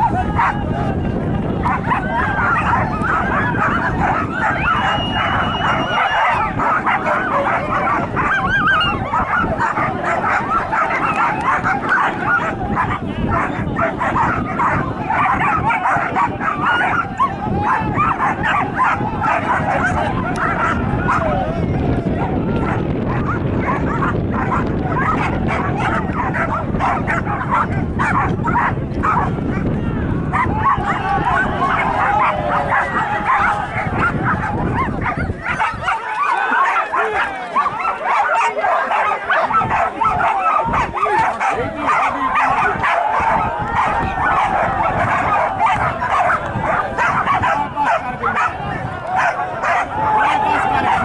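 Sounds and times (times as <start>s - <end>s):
dogs yelping and whining: 1.6s - 21.4s, 23.1s - 29.3s, 30.3s - 48.6s, 49.2s - 51.0s.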